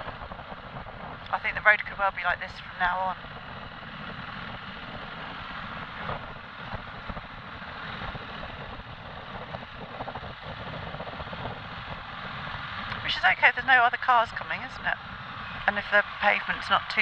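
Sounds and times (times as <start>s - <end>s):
motorcycle engine: 0.0s - 17.0s
road noise: 0.0s - 17.0s.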